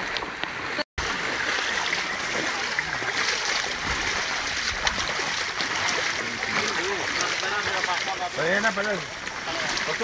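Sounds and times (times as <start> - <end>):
faint water splashing: 0.0 - 10.0
floodwater rushing: 0.0 - 10.0.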